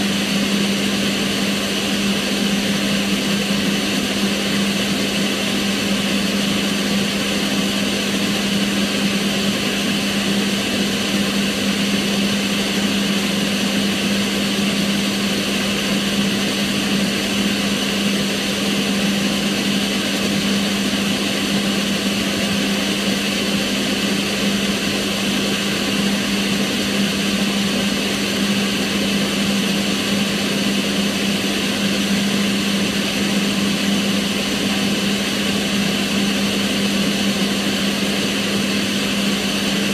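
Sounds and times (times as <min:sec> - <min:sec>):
range hood fan humming: 0:00.0 - 0:39.9.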